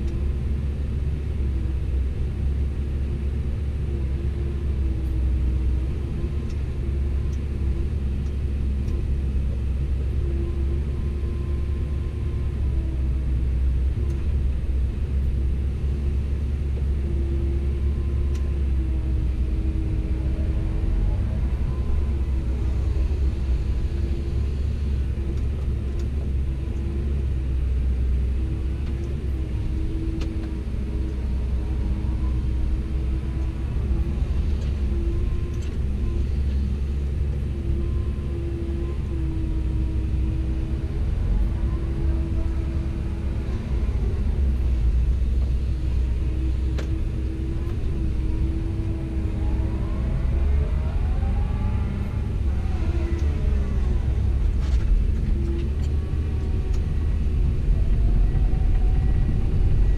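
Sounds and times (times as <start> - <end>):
excavator diesel engine rumbling: 0.0 - 59.9
faint whine: 0.0 - 59.9.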